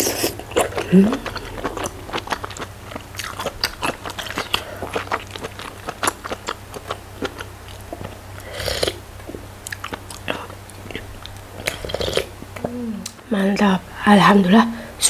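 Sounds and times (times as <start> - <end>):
person chewing with wet mouth clicks: 0.0 - 8.2, 8.8 - 13.7.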